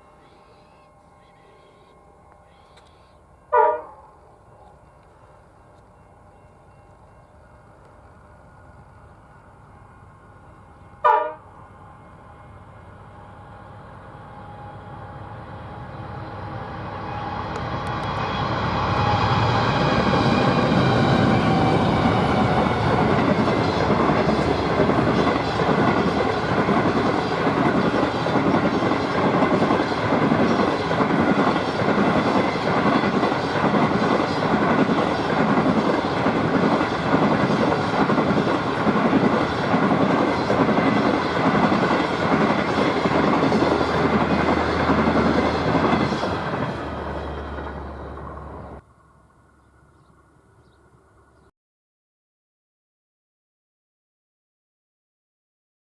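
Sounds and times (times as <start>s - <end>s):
locomotive engine with high whine: 0.0s - 51.5s.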